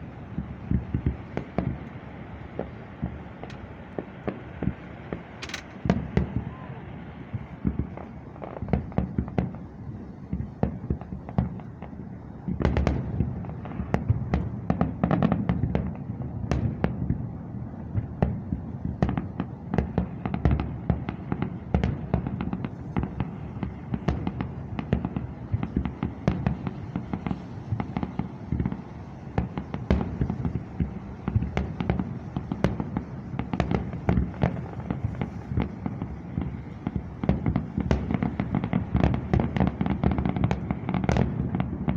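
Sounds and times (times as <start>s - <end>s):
fireworks booms and pops: 0.0s - 41.9s.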